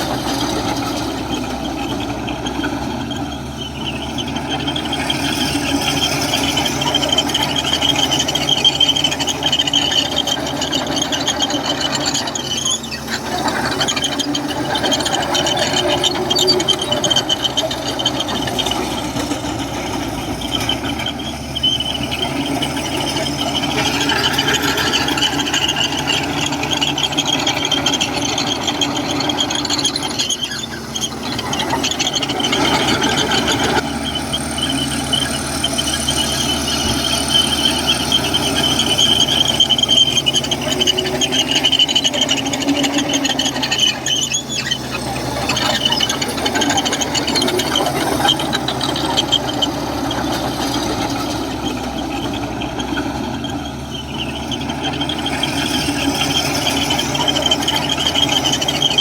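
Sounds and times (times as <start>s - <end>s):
diesel engine running: 0.0s - 59.0s
metallic squeal of crawler tracks: 0.0s - 59.0s.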